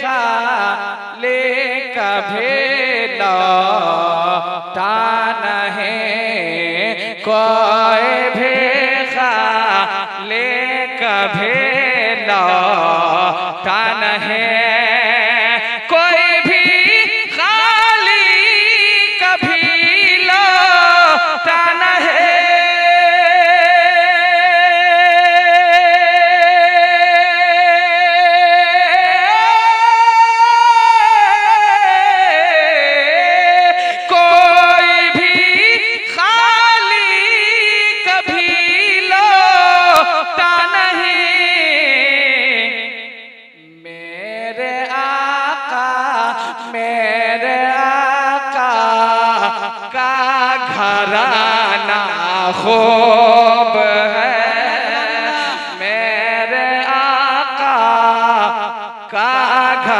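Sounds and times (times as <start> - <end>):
man singing into a microphone: 0.0 - 59.9.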